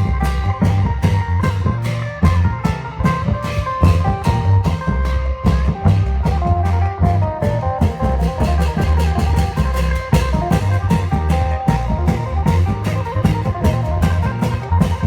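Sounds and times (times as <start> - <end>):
deep drums: 0.0 - 15.0
plucked string melody: 0.0 - 15.0.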